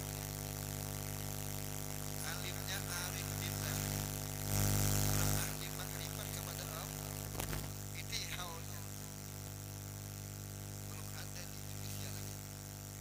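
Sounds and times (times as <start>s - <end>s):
mains hum and buzz: 0.0s - 13.0s.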